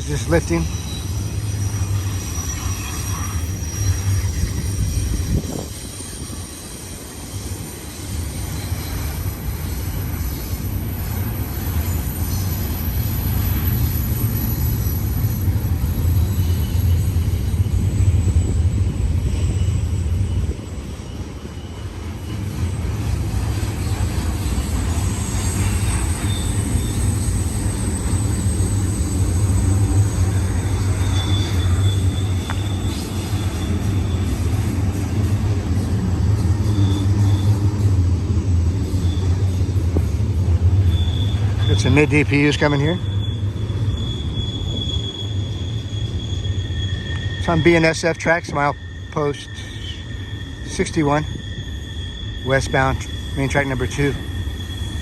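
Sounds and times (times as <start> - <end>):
faint high wheel squeal: 0.0 - 55.0
freight train rumbling: 0.0 - 55.0.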